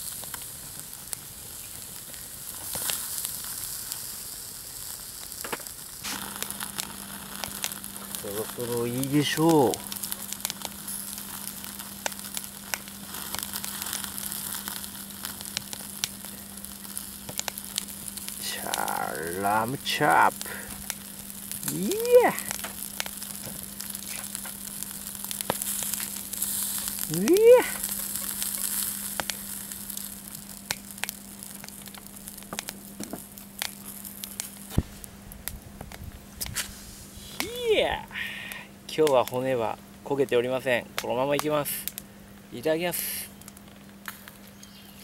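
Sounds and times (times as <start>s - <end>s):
meat sizzling on a grill: 0.0s - 45.0s
sharp pops and crackles: 0.0s - 45.0s.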